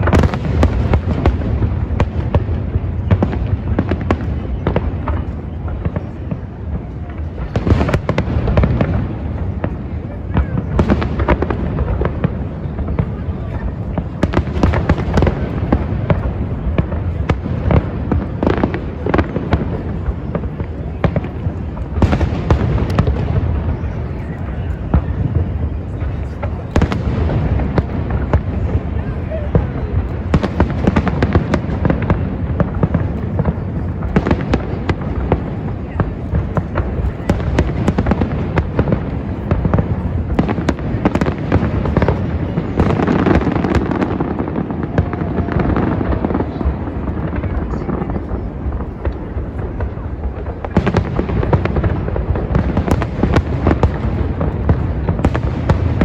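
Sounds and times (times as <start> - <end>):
distant fireworks booms: 0.0 - 56.0
fireworks bangs and crackles: 0.0 - 56.0.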